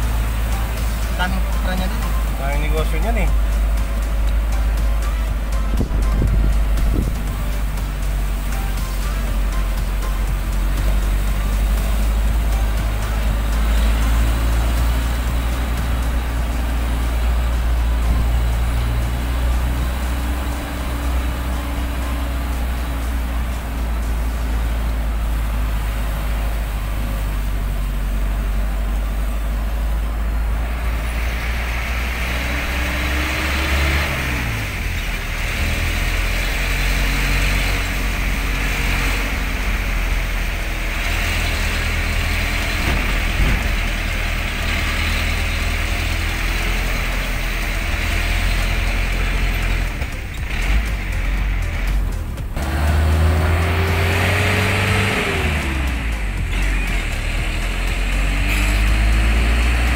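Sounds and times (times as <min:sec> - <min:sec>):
heavy low rumble: 0:00.0 - 0:59.9
vehicle engine driving: 0:00.0 - 0:59.9.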